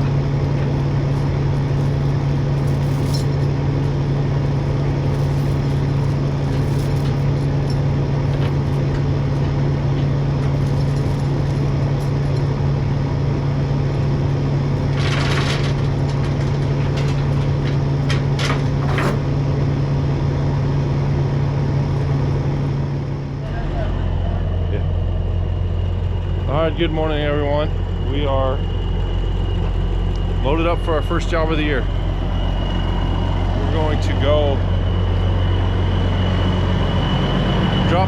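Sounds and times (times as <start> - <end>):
vehicle engine droning: 0.0 - 38.0.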